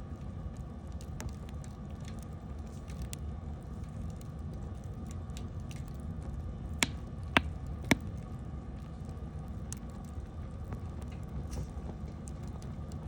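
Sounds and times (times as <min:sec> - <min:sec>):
campfire crackling: 0:00.0 - 0:13.0
fire popping: 0:00.0 - 0:13.0.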